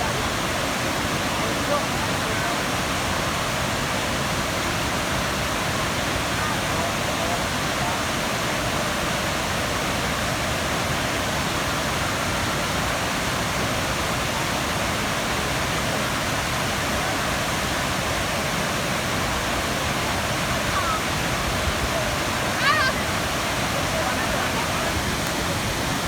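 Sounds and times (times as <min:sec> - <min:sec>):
large waterfall rushing: 0:00.0 - 0:26.0.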